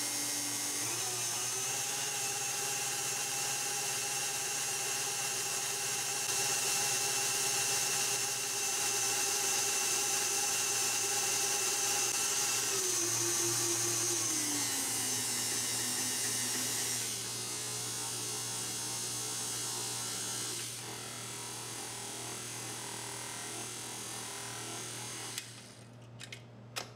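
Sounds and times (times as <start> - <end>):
electric mixer motor whining: 0.0 - 25.8.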